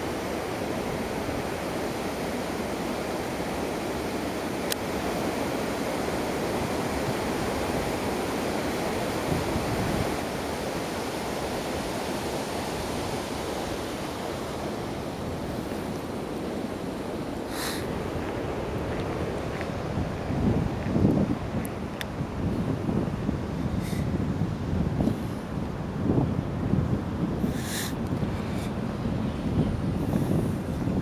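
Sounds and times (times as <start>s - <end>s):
steady rushing outdoor noise: 0.0s - 31.0s.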